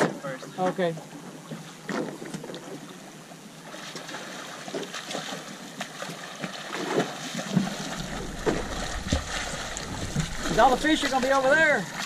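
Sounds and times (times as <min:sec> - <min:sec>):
waves lapping against boat hull: 0:00.0 - 0:12.0.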